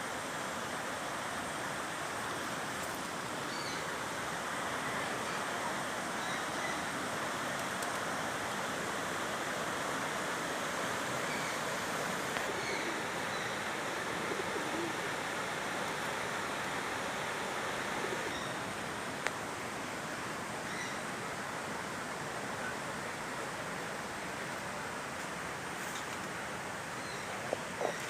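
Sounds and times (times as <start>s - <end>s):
stream water flowing: 0.0s - 28.0s.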